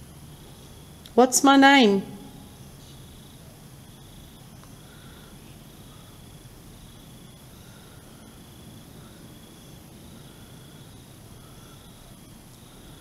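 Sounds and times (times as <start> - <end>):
crickets trilling: 0.0 - 13.0
faint steady hiss: 0.0 - 13.0.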